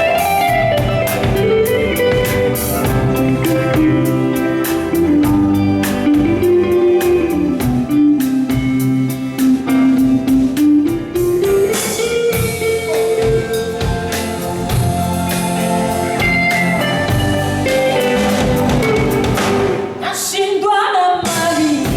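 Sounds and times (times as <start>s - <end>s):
electric guitar melody: 0.0s - 20.2s
drum kit: 0.0s - 20.4s, 21.2s - 21.9s.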